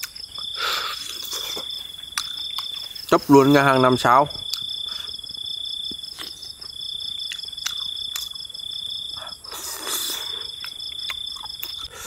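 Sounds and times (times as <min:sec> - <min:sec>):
person chewing food: 0:00.0 - 0:03.2, 0:04.4 - 0:12.0
crickets trilling: 0:00.0 - 0:12.0.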